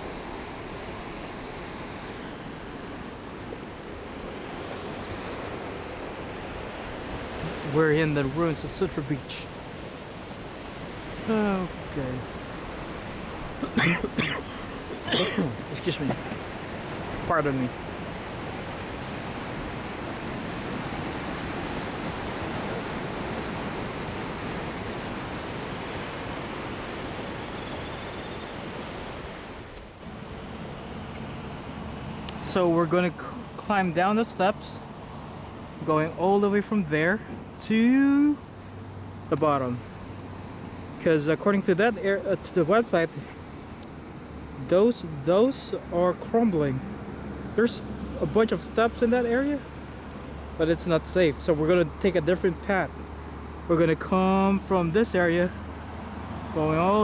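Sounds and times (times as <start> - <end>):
ocean surf washing: 0.0 - 57.0
wind: 0.0 - 57.0.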